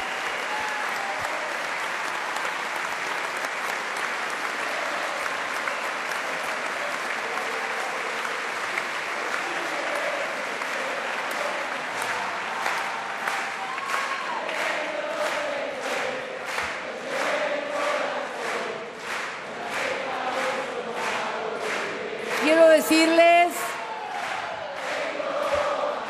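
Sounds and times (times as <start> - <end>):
audience applause: 0.0 - 26.0.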